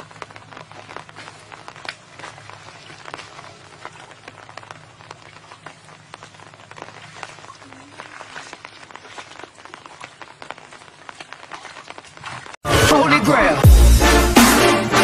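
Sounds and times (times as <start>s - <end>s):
muddy water splashing: 0.0s - 12.6s.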